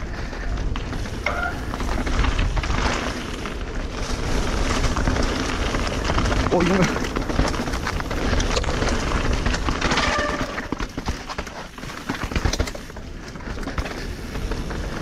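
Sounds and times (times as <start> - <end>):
bike rattling and knocking: 0.0 - 15.0
bike tyres rolling through mud: 0.0 - 15.0.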